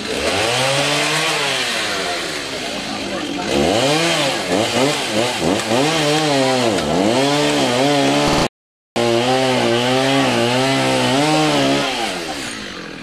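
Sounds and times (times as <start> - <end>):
chainsaw cutting branches: 0.0 - 13.0.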